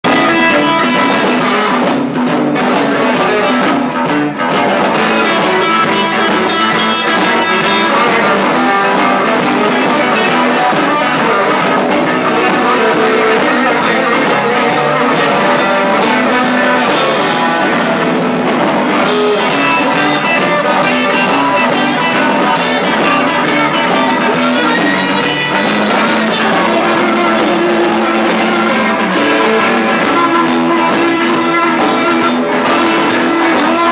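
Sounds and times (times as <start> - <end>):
bass guitar: 0.0 - 33.9
drums: 0.0 - 33.9
electric guitars: 0.0 - 33.9.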